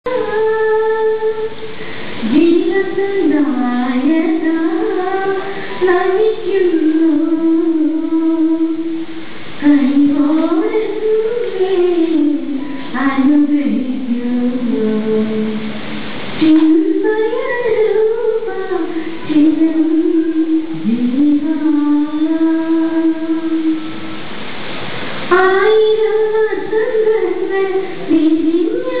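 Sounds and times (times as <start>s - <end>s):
woman singing: 0.0s - 15.8s, 16.4s - 24.0s, 25.3s - 29.0s.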